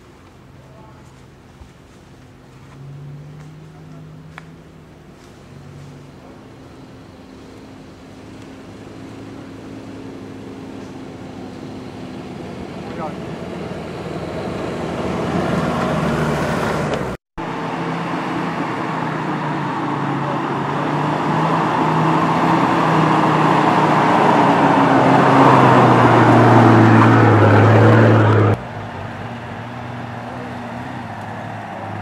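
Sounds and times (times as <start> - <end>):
off-road engines running under load: 0.0 - 32.0.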